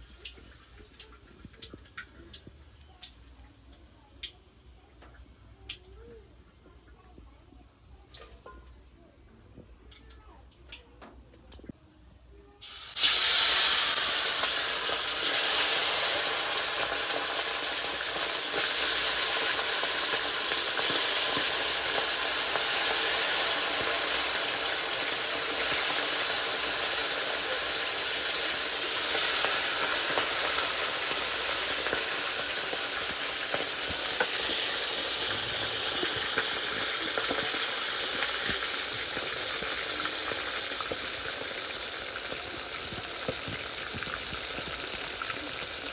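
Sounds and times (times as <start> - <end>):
food sizzling in hot oil: 0.0 - 8.8, 12.6 - 45.9.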